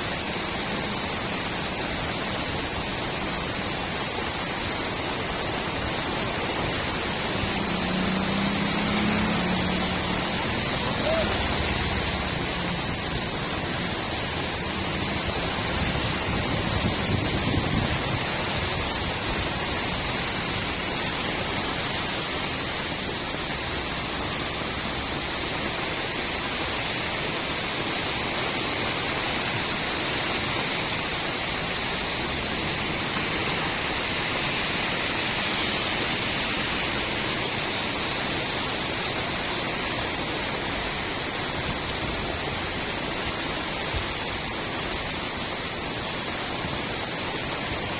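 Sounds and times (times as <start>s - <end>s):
rain falling on a street: 0.0s - 47.9s.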